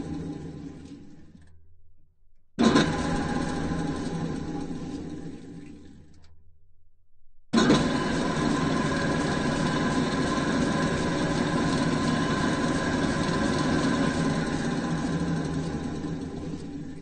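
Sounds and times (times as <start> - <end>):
drill press whirring: 0.0 - 1.6, 2.4 - 6.2, 7.6 - 17.0.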